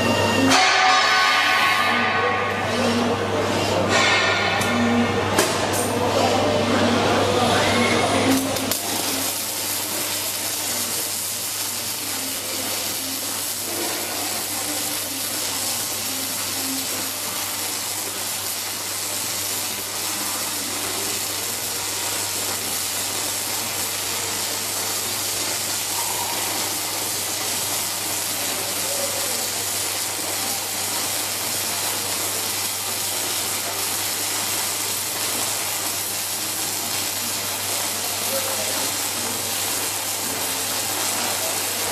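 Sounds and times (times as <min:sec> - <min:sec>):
arc welding hiss: 0:07.1 - 0:41.9.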